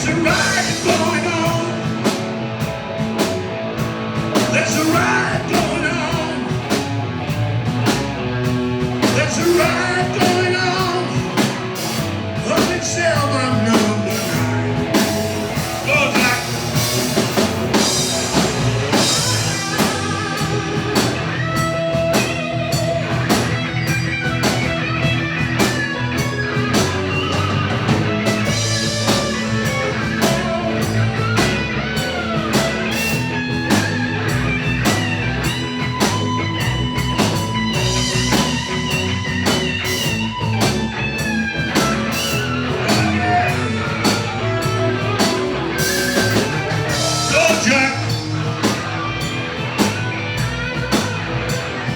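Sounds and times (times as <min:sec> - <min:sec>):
bass guitar: 0:00.0 - 0:51.9
lead guitar solo with bent notes: 0:00.0 - 0:51.9
steady drum beat: 0:00.0 - 0:51.9.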